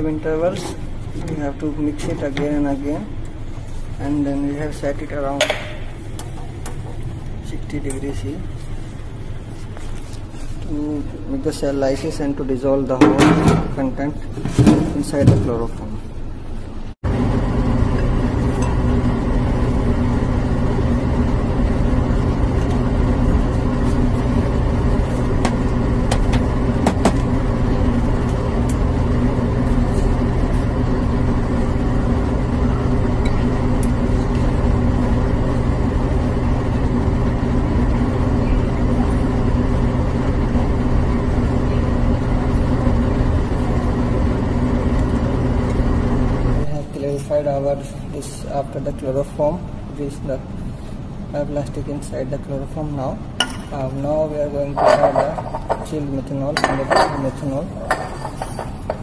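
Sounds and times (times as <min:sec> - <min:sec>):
mechanical hum of motor or fan: 0:00.0 - 0:59.0.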